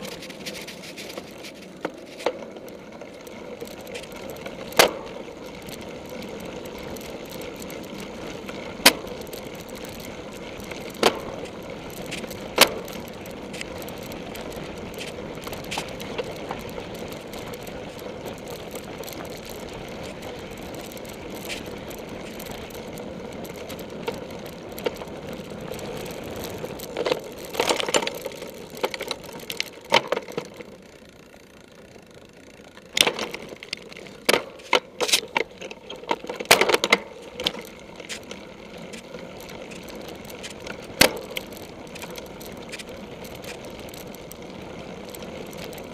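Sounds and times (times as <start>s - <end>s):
bike rattling over grass: 0.0s - 45.9s.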